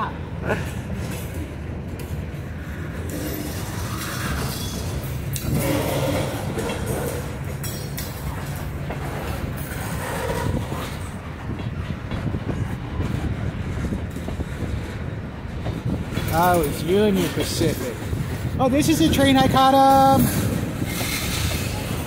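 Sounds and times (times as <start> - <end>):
train wheels rumbling on rails: 0.0 - 22.0
train cars knocking: 3.0 - 22.0.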